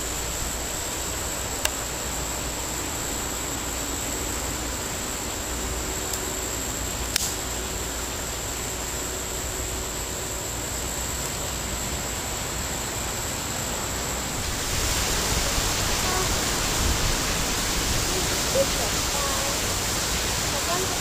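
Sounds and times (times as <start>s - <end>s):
steady hissing noise: 0.0s - 21.0s.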